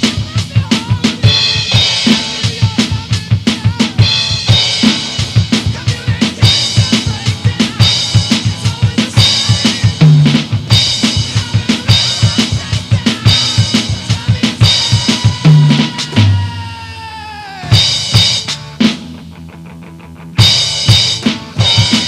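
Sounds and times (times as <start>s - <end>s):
bass drum and snare strokes: 0.0s - 16.6s, 17.7s - 19.3s, 20.4s - 22.0s.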